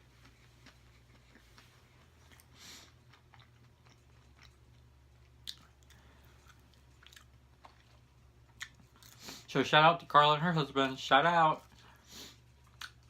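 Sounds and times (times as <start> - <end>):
close-up chewing: 0.0 - 9.5, 11.6 - 13.0.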